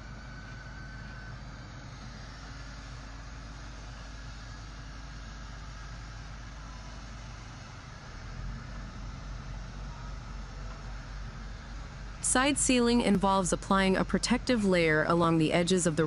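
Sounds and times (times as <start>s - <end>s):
paver engine and machinery hum: 0.0s - 16.0s.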